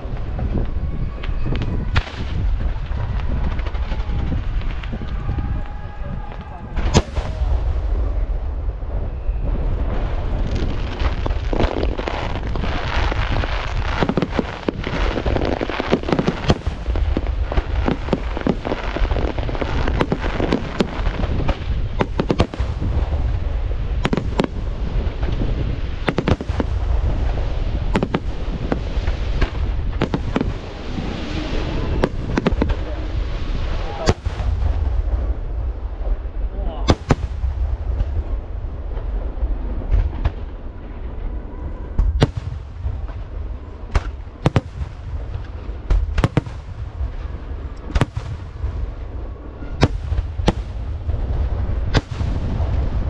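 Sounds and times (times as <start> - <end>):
fireworks bursts and bangs: 0.0 - 53.0
low rumble: 0.0 - 53.0.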